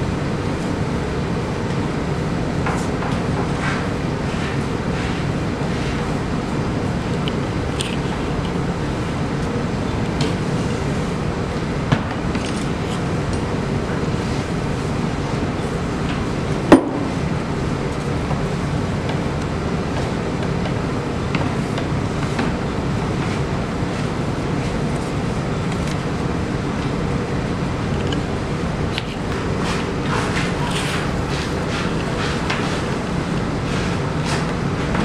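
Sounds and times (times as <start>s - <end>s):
low room rumble: 0.0s - 35.0s.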